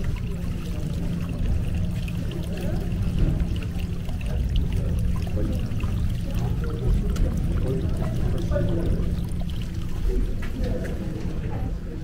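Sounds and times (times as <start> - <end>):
steady low hum: 0.0 - 12.0
water running and trickling: 0.0 - 12.0.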